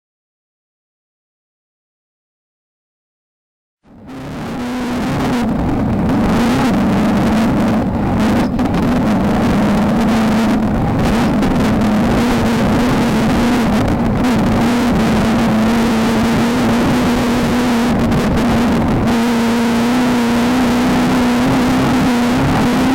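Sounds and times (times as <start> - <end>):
race car engine at high revs: 3.9 - 22.9
road and wind noise: 3.9 - 22.9.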